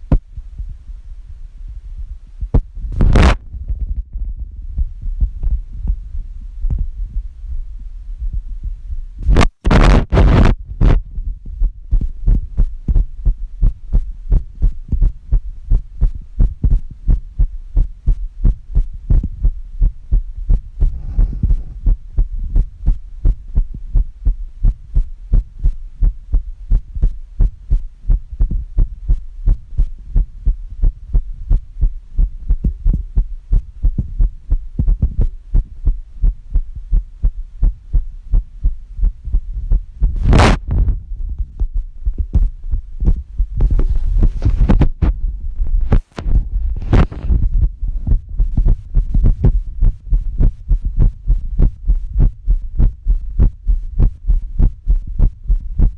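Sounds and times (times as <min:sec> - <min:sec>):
constant low hum: 0:00.0 - 0:55.9
heartbeat: 0:00.0 - 0:55.9.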